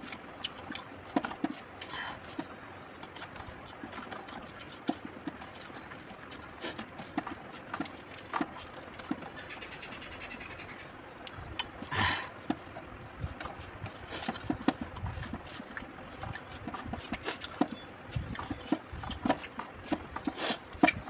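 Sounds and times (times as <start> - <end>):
drinking from a cup: 0.0 - 9.5, 11.3 - 21.0
fingers mixing rice on plate: 0.0 - 9.5, 11.2 - 21.0
chewing and lip smacking: 0.0 - 21.0.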